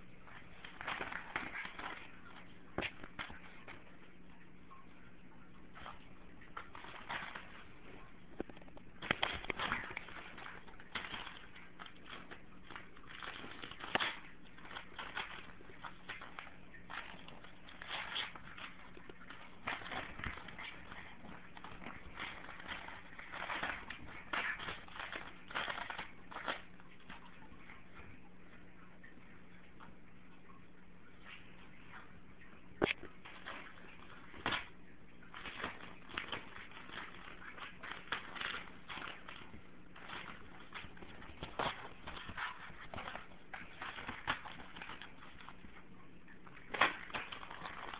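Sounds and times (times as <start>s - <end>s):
paper crinkling and rustling: 0.0s - 30.0s, 31.1s - 47.9s
puppy chewing paper: 0.0s - 30.0s, 31.1s - 47.9s.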